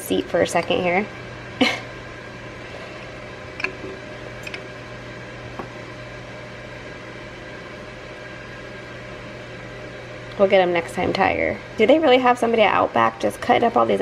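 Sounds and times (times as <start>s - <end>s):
grill fan humming: 0.0s - 14.0s.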